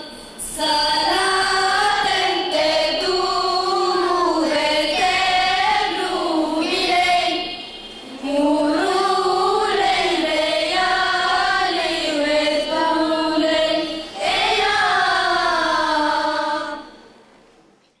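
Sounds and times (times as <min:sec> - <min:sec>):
girls singing in unison: 0:00.0 - 0:17.2.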